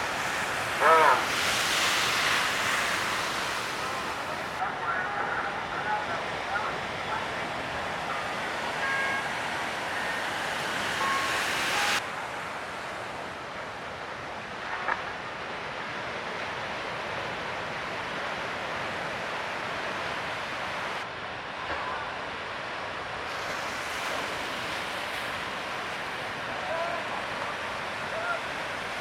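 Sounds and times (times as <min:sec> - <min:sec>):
ocean surf: 0:00.0 - 0:29.0.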